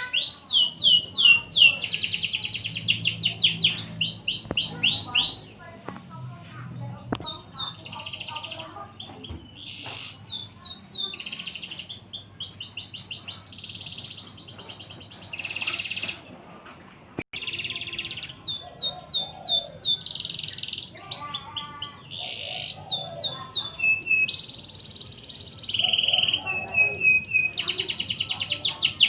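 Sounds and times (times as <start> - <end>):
canary singing trills: 0.0 - 5.9, 6.7 - 16.3, 17.3 - 29.0.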